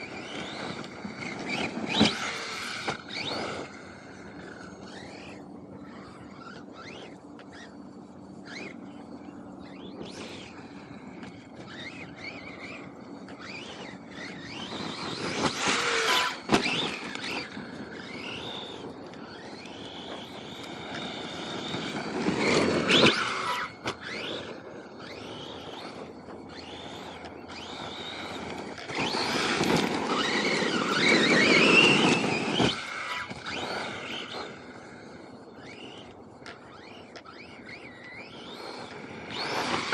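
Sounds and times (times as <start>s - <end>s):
electric motor whine: 0.0s - 39.9s
tyres on dirt: 0.0s - 39.9s.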